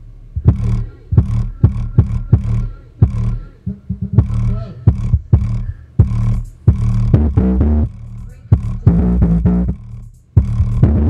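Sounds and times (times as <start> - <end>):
bass-heavy music with beat: 0.4 - 11.0.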